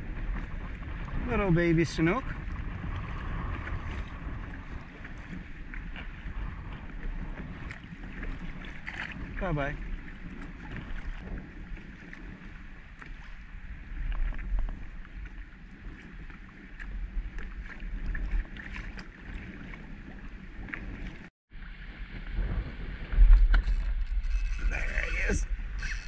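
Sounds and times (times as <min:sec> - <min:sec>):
water lapping against kayak hull: 0:00.0 - 0:26.0
wind buffeting microphone: 0:00.0 - 0:26.0.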